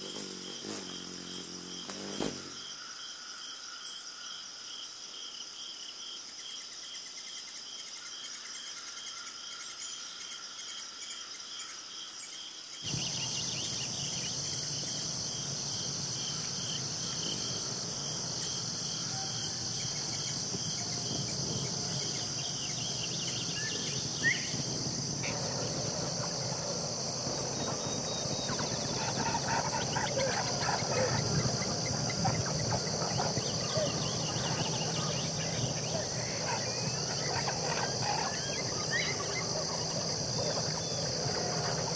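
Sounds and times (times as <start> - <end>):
high-pitched insect drone: 0.0 - 41.9
insects pulsing chirp: 0.0 - 41.9.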